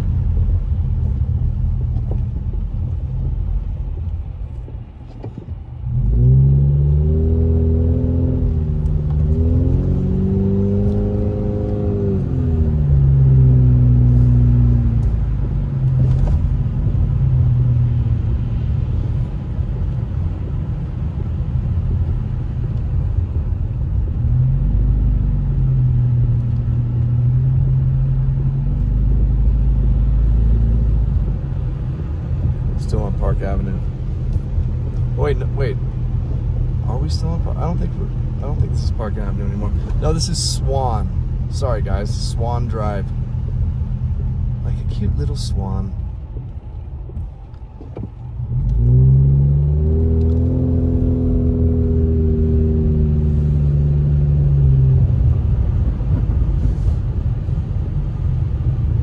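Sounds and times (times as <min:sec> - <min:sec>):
car engine accelerating: 0:00.0 - 0:59.0
road rumble: 0:00.0 - 0:59.0.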